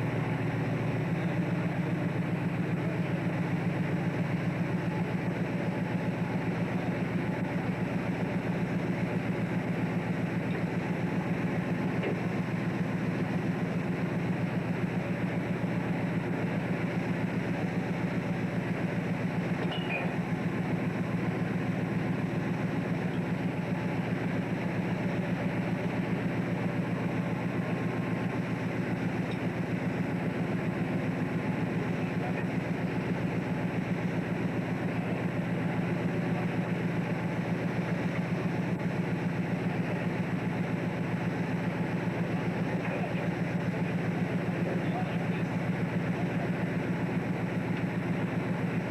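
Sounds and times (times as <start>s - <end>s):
boat diesel engine running: 0.0s - 48.9s.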